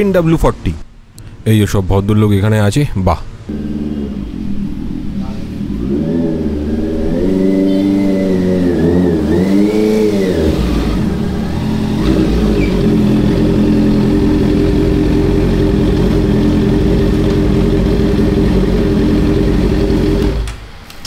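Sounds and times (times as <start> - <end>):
motorcycle engine revving and idling: 3.5 - 20.6.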